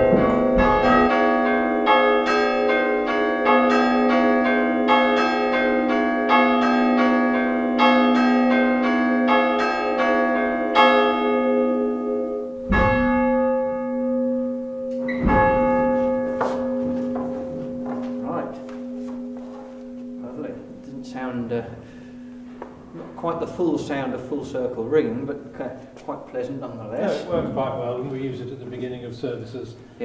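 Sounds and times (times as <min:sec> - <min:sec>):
bells humming: 0:00.0 - 0:24.2
hammers striking church bells: 0:00.0 - 0:24.3.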